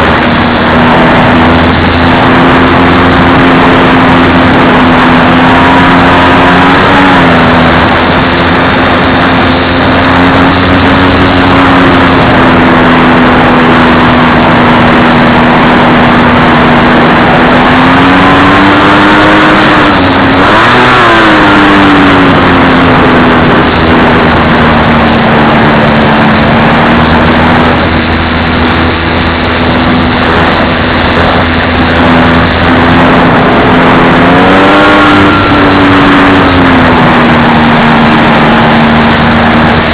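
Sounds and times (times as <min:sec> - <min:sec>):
model plane motor and propeller: 0:00.0 - 0:39.9
rush of air: 0:00.0 - 0:39.9.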